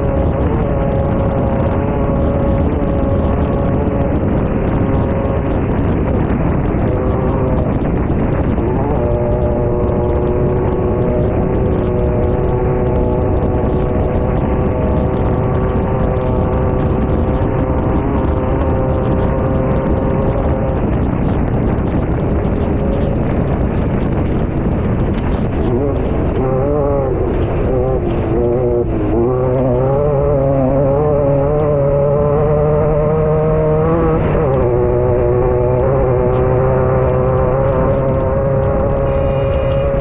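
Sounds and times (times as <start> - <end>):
heavy wind: 0.0 - 40.0
race car engine running hard: 0.0 - 40.0
rough ground rumble: 0.0 - 40.0.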